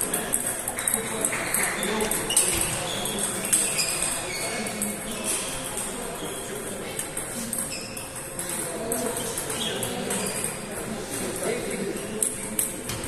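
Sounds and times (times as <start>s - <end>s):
faint voices: 0.0s - 13.0s
ping-pong balls clicking: 0.0s - 13.0s.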